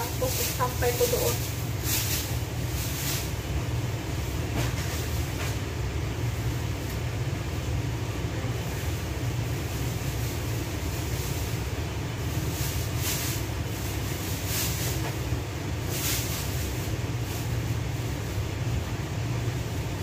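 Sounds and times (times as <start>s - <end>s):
range hood fan running: 0.0s - 20.0s.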